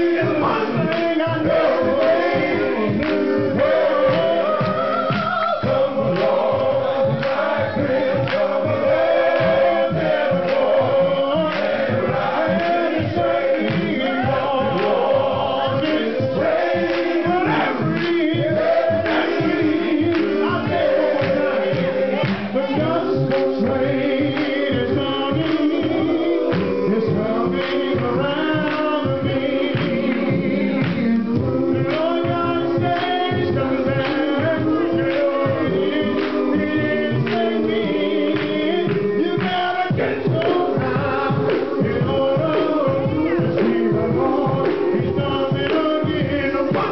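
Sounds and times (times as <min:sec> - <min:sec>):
congregation clapping: 0:00.0 - 0:46.9
men's gospel choir singing: 0:00.0 - 0:46.9.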